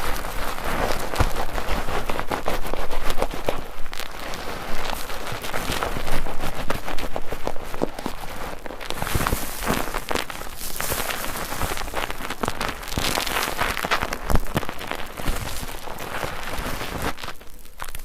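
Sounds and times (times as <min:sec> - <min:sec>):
soap lather crackling wetly: 0:00.0 - 0:18.0.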